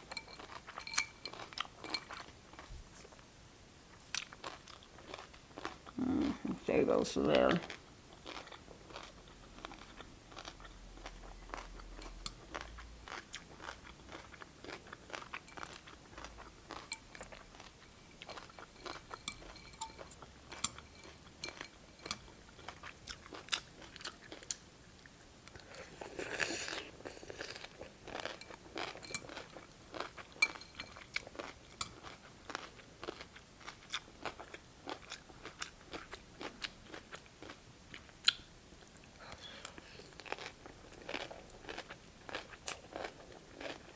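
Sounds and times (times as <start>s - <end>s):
chewing and crunching cucumber: 0.0s - 2.7s, 4.0s - 6.6s, 7.4s - 38.9s, 40.0s - 43.9s.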